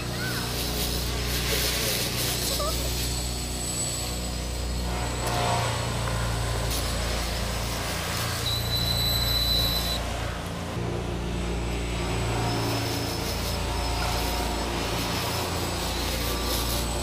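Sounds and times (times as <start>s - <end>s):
quadcopter propellers buzzing: 0.0s - 17.0s
thin high whine: 0.0s - 17.0s.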